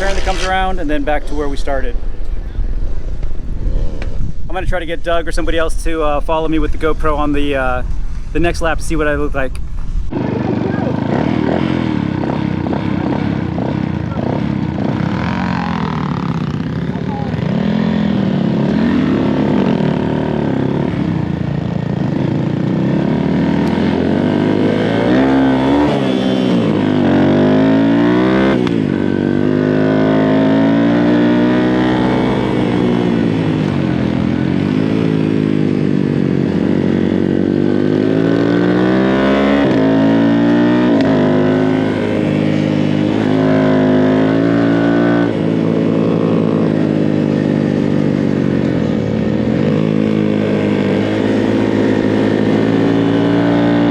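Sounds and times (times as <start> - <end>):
minibike engine revving: 0.0 - 4.0, 10.1 - 53.9.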